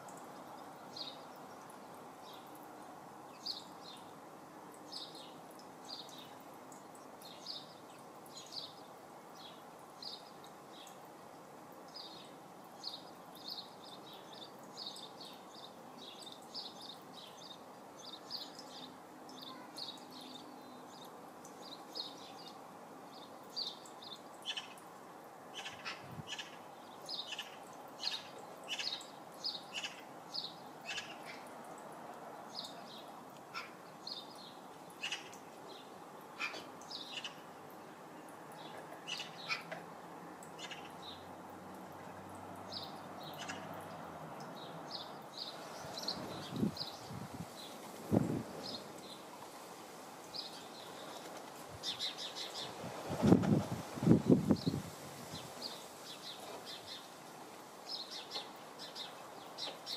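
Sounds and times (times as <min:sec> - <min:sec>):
small birds chirping: 0:00.0 - 0:11.1, 0:11.9 - 0:59.9
background hiss: 0:00.0 - 0:59.9.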